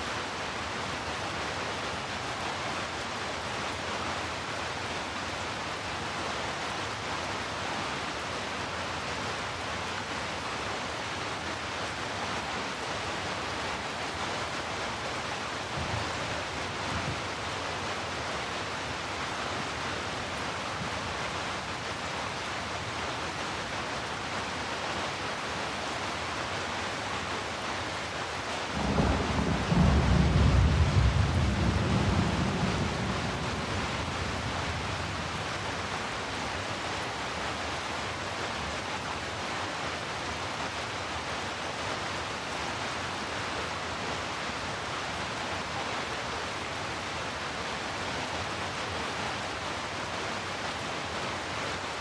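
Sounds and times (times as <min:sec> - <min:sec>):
heavy rain hissing: 0:08.1 - 0:52.0.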